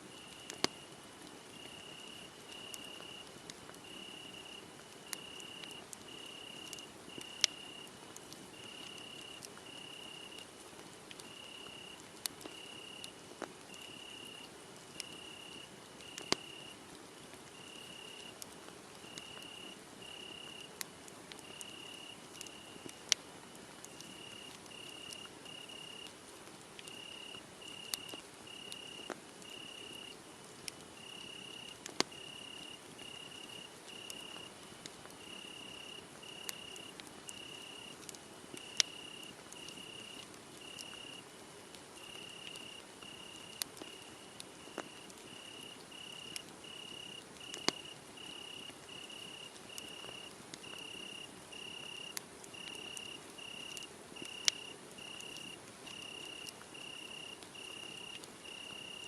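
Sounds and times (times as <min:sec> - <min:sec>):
wood fire popping and crackling: 0:00.1 - 0:56.8
crickets chirping: 0:01.5 - 0:07.9, 0:08.5 - 0:10.4, 0:11.2 - 0:13.1, 0:13.7 - 0:16.8, 0:17.6 - 0:18.3, 0:19.0 - 0:20.7, 0:21.4 - 0:22.9, 0:24.0 - 0:26.1, 0:26.9 - 0:30.2, 0:31.0 - 0:34.5, 0:35.2 - 0:37.9, 0:38.6 - 0:41.2, 0:42.0 - 0:59.0.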